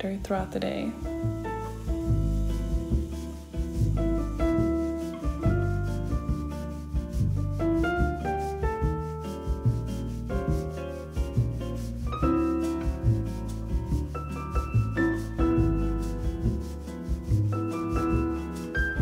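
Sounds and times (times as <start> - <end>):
background music with keyboard: 0.0 - 19.0.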